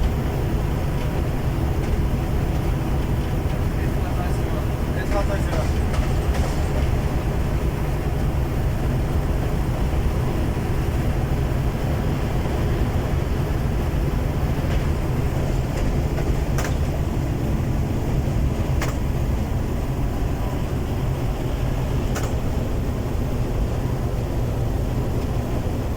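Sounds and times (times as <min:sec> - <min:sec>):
diesel train rumbling: 0:00.0 - 0:25.9.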